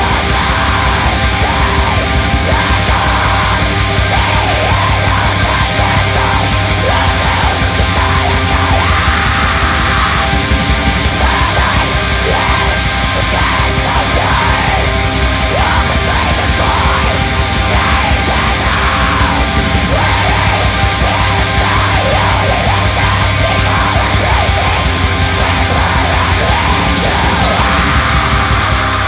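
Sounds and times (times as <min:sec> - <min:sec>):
loud metal music: 0:00.0 - 0:29.0.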